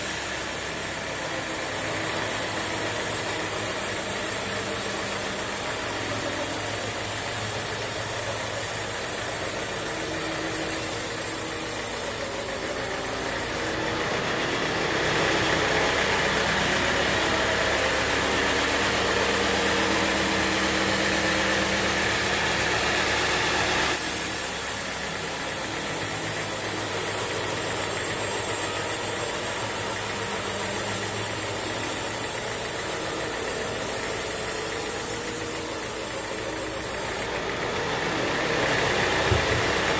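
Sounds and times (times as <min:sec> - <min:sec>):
saw blade cutting log: 0:00.0 - 0:39.9
sawmill humming: 0:00.0 - 0:39.9.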